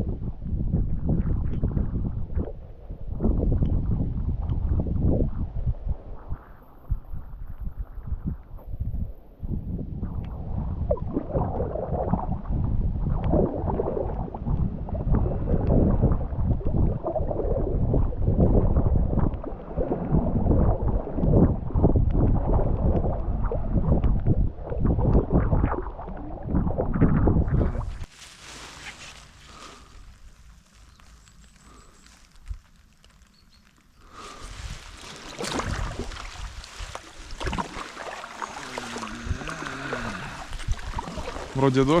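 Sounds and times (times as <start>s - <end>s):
wind buffeting microphone: 0.0s - 28.1s, 34.0s - 42.0s
water sloshing and gurgling: 7.7s - 31.7s, 32.3s - 42.0s.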